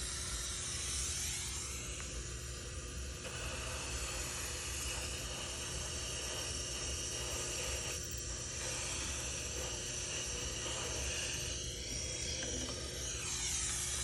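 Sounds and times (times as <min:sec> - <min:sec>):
dental suction hissing: 0:00.0 - 0:14.0.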